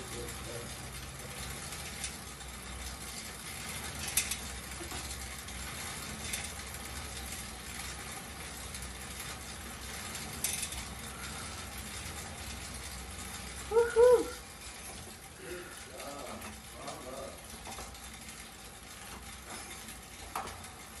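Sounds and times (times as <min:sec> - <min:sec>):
exercise bike fan whirring: 0:00.0 - 0:21.0.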